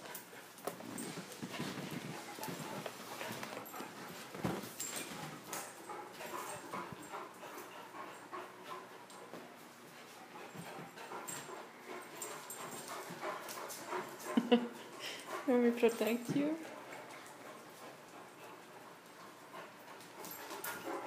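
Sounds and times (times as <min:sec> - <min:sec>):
dog noises: 0:00.0 - 0:21.0
dogs scuffling: 0:00.0 - 0:21.0
paws clicking on floor: 0:00.0 - 0:21.0.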